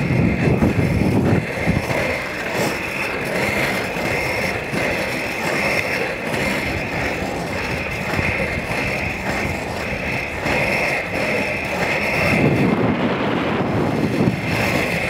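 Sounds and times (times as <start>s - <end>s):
skate wheels rolling on asphalt: 0.0s - 15.0s.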